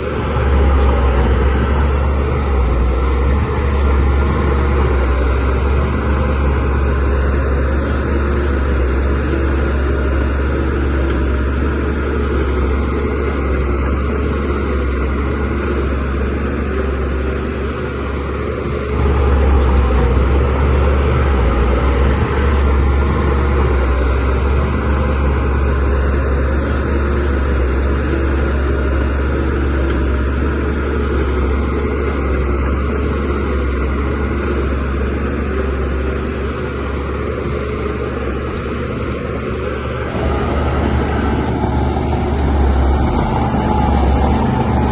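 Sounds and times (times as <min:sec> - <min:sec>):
bulldozer diesel engine droning: 0:00.0 - 0:44.9.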